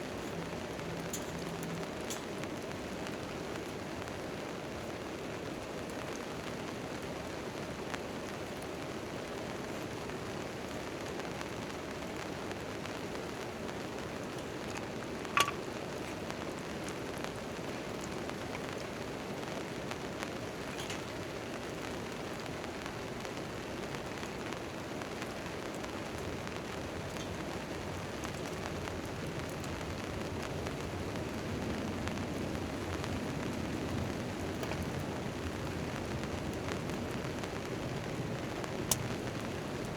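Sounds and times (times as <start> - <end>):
campfire burning: 0.0 - 39.9
rain drumming on a tarp: 0.0 - 39.9.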